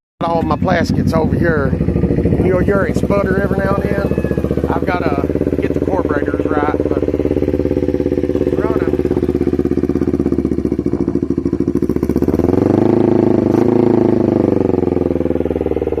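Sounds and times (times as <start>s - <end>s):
motorcycle engine idling: 0.2s - 16.0s.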